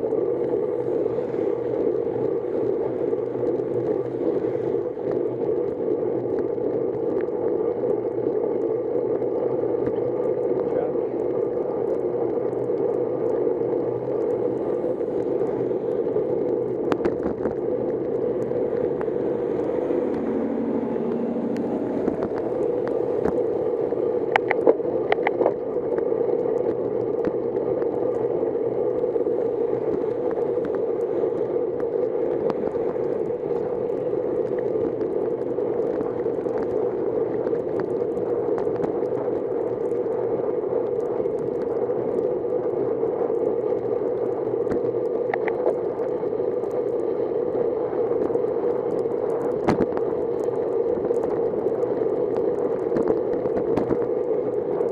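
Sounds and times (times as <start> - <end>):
bicycle tyre noise: 0.0 - 54.9
wind: 0.0 - 54.9.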